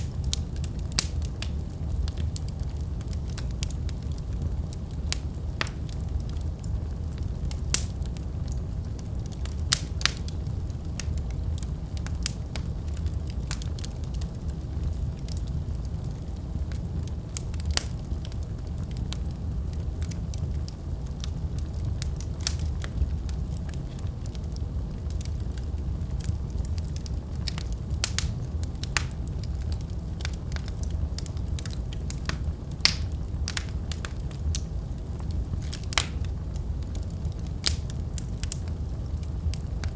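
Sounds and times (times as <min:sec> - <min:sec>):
fire flames rumbling: 0:00.0 - 0:39.9
wood fire crackling and popping: 0:00.0 - 0:39.9.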